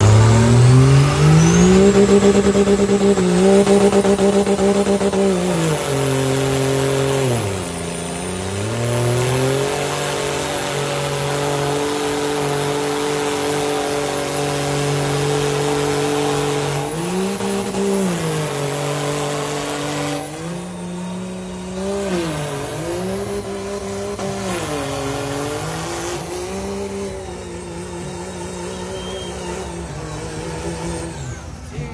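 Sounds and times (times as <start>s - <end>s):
spinning tyres hissing: 0.0s - 31.9s
truck engine revving: 0.0s - 31.9s.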